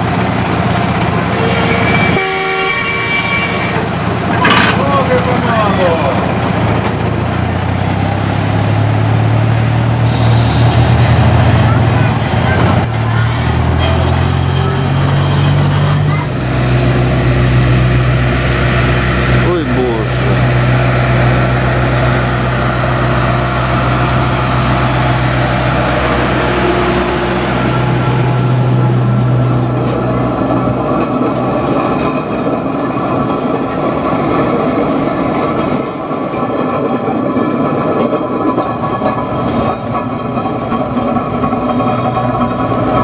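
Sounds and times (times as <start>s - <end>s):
diesel locomotive engine drone: 0.0s - 43.0s
wheels rattling and squealing on rails: 0.0s - 43.0s.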